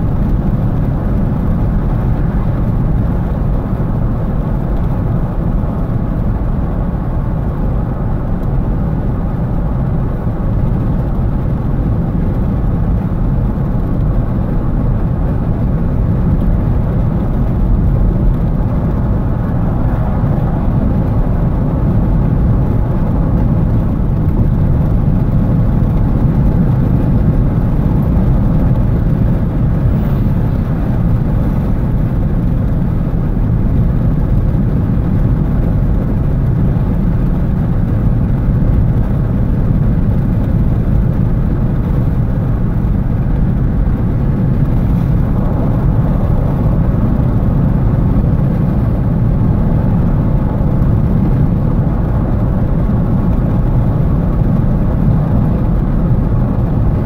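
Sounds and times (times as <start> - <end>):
car cabin road and engine noise: 0.0 - 57.0.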